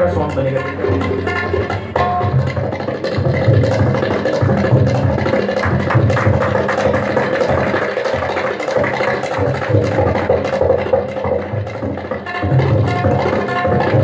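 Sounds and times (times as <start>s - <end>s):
rapid treble drum strokes: 0.0s - 14.0s.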